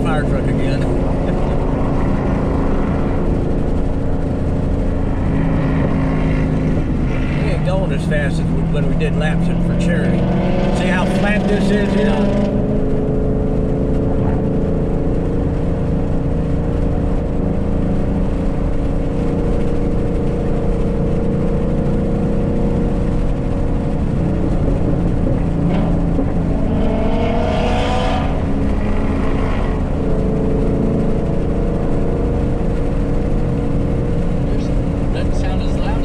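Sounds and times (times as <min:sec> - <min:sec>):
car engine and exhaust cruising: 0:00.0 - 0:36.0.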